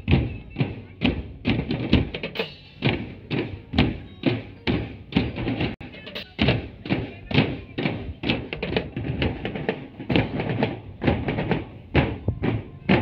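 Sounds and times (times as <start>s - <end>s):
marching drum band: 0.0s - 13.0s.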